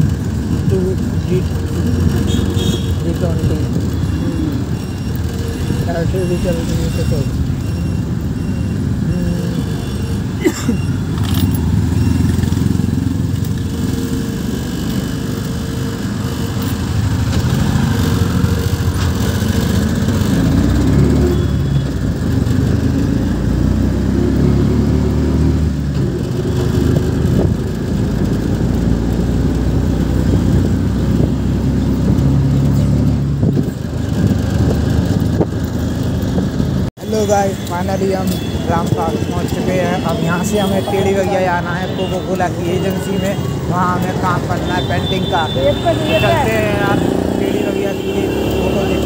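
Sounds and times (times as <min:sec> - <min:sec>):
auto-rickshaw engine running: 0:00.0 - 0:49.0
road and wind noise: 0:00.0 - 0:49.0.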